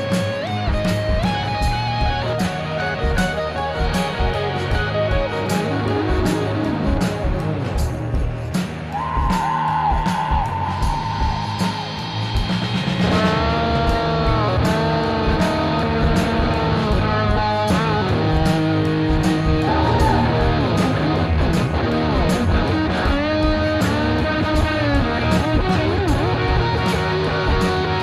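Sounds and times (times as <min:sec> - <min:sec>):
rock music with electric guitar: 0:00.0 - 0:28.0.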